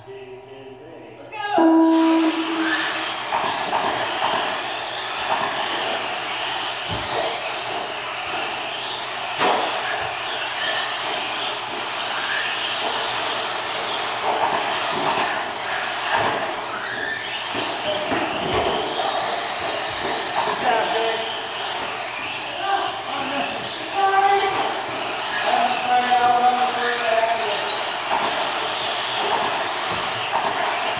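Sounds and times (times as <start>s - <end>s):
electric motors whining: 1.6s - 30.9s.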